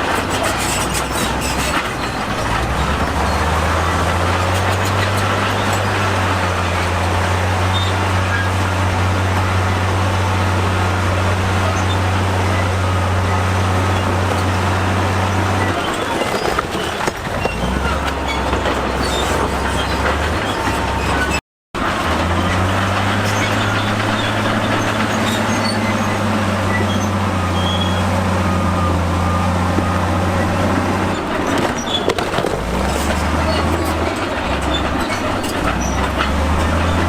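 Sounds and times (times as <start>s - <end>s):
bulldozer diesel engine: 0.0s - 37.0s
tracks rattling over stone: 0.0s - 37.0s.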